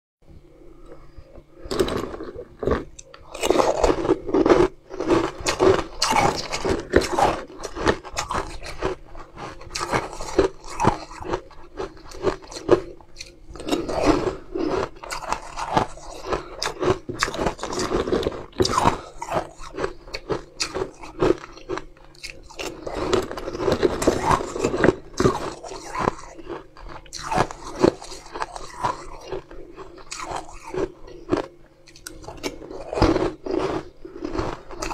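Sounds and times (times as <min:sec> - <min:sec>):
faint low hum: 0:00.2 - 0:34.9
chewing: 0:00.8 - 0:34.9
crunching frozen ice balls: 0:01.6 - 0:34.9.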